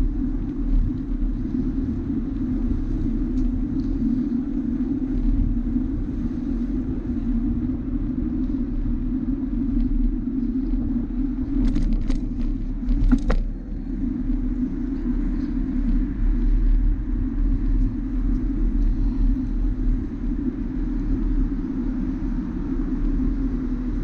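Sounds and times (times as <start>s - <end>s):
bicycle rumbling over paving stones: 0.0s - 21.4s.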